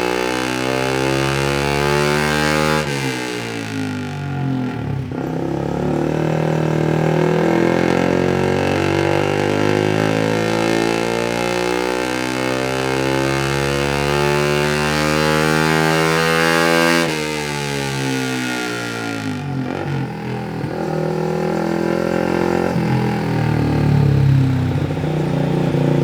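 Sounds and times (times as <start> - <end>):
motorcycle engine at full throttle: 0.0 - 26.0.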